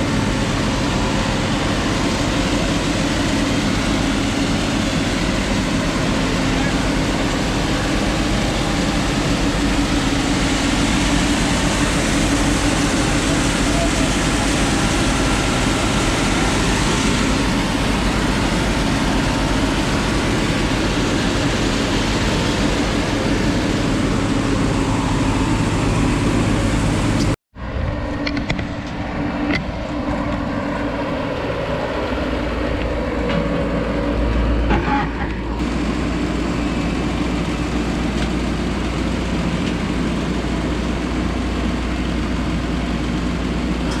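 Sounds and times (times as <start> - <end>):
crop sprayer engine drone: 0.0 - 44.0.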